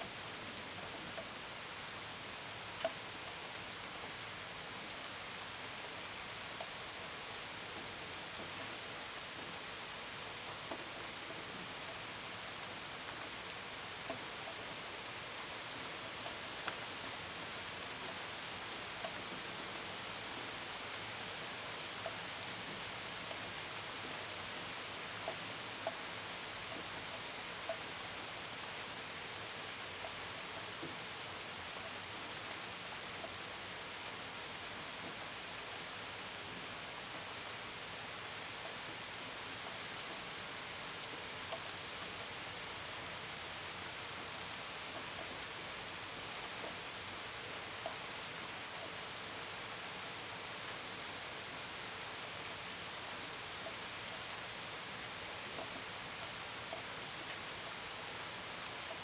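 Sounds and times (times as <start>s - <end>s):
gentle rain: 0.0s - 59.0s.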